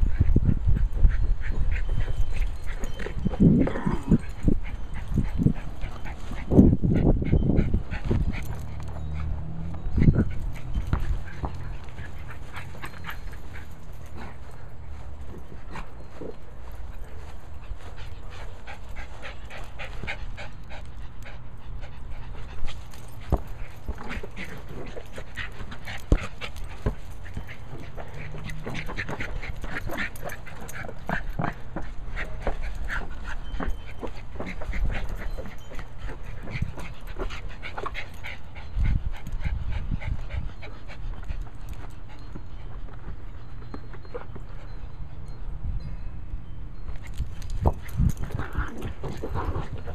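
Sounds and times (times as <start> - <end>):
dog panting rapidly: 0.0 - 44.8.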